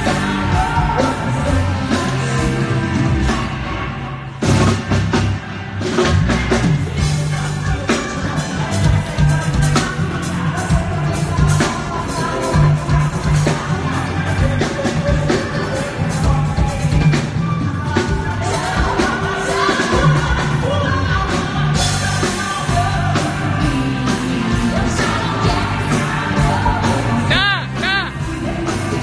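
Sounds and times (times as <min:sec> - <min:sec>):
woman singing into a microphone: 0:00.0 - 0:03.4, 0:07.0 - 0:29.0
live pop band playing: 0:00.0 - 0:29.0.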